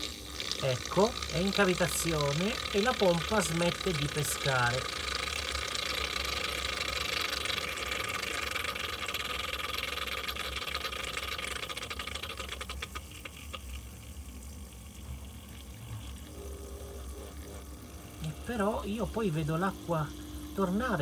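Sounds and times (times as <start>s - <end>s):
low steady hum: 0.0s - 21.0s
water pump gurgling and hissing: 0.0s - 21.0s.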